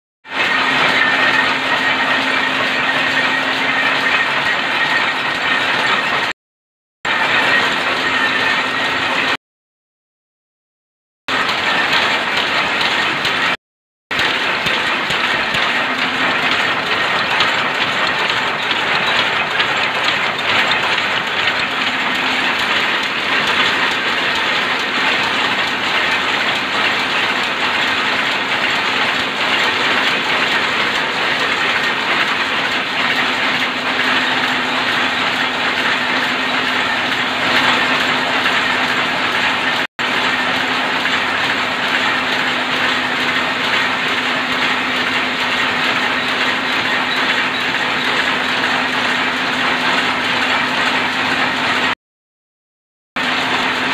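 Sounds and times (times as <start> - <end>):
loom mechanical clatter: 0.2 - 6.4, 7.1 - 9.4, 11.3 - 52.0, 53.2 - 53.9.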